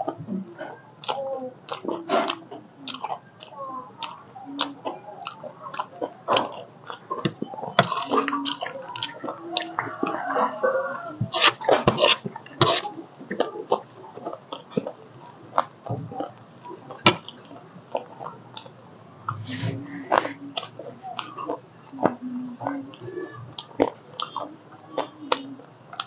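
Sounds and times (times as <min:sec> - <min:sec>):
chewing and crunching snack: 0:00.0 - 0:26.0.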